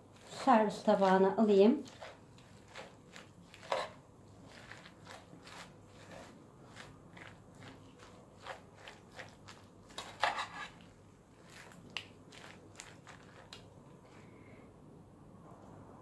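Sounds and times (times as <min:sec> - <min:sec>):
lettuce rustling and crunching: 0:00.0 - 0:14.1.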